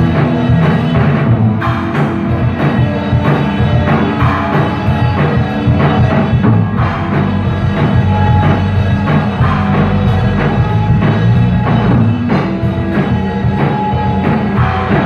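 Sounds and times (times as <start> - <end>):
drum kit with cymbals: 0.0 - 15.0
electric guitars: 0.0 - 15.0
rock band playing: 0.0 - 15.0.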